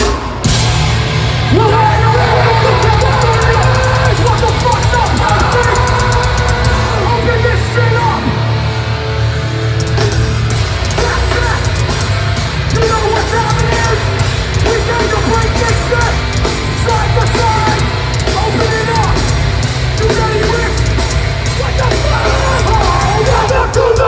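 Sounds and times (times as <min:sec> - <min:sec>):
bass: 0:00.0 - 0:24.0
distorted guitars: 0:00.0 - 0:24.0
drums with crashing cymbals: 0:00.0 - 0:24.0
shouted vocals: 0:01.3 - 0:08.6, 0:10.9 - 0:11.9, 0:12.7 - 0:24.0.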